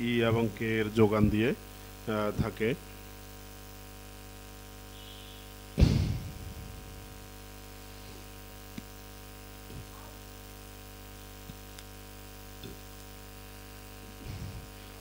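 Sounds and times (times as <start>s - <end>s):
low electrical mains hum: 0.0s - 15.0s.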